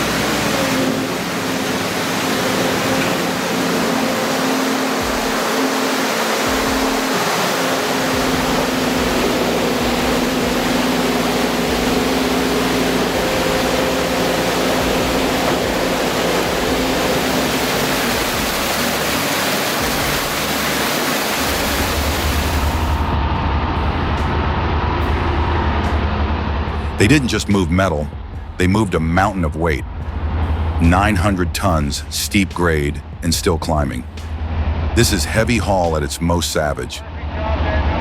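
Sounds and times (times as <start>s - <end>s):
truck engines running under load: 0.0s - 36.8s
loud rushing noise: 0.0s - 38.0s.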